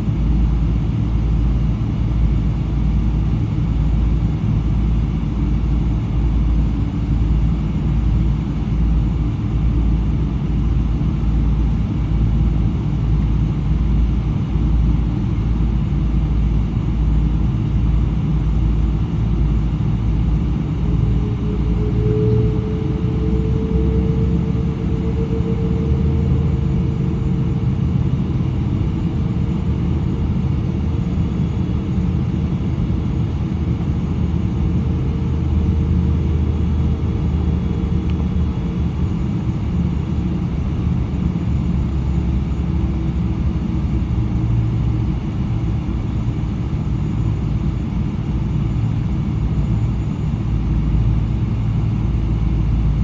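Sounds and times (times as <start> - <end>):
airplane cabin rumble: 0.0 - 53.0
hum tone: 0.0 - 53.0.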